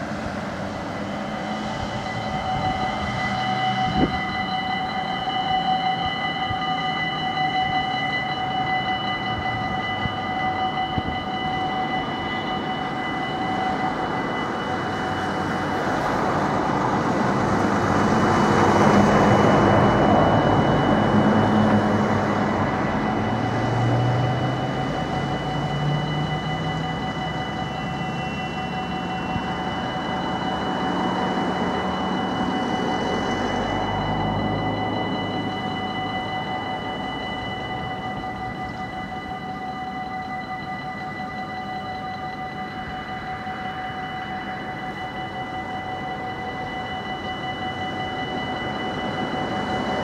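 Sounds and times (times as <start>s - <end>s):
broad rush of noise: 0.0s - 50.0s
level crossing warning bells ringing: 0.0s - 50.0s.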